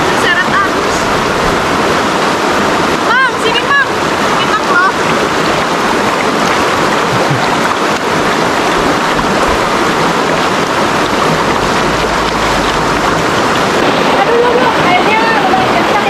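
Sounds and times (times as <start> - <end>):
shallow river flowing: 0.0 - 16.0
water splashing: 0.0 - 16.0.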